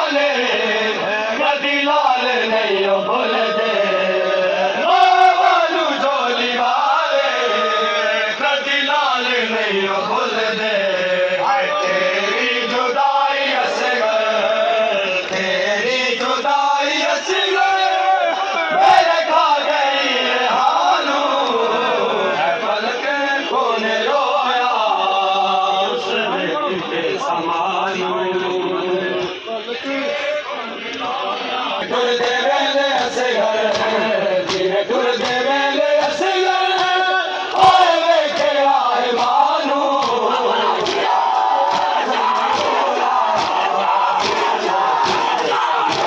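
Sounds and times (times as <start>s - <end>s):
men chanting a mourning lament: 0.0s - 46.0s.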